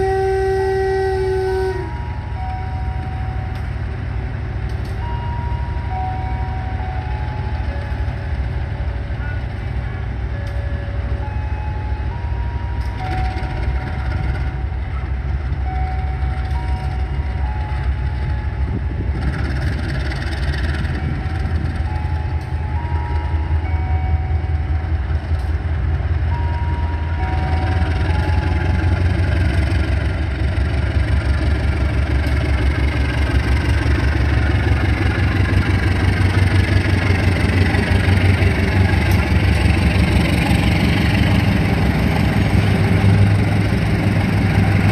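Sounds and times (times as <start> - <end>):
high engine whine: 0.0 - 44.9
locomotive engine rumbling: 0.0 - 44.9.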